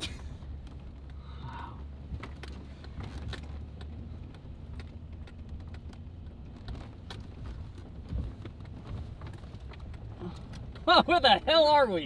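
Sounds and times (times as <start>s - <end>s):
light clicks and rattles: 0.0s - 12.0s
vehicle engine and road rumble: 0.0s - 12.0s.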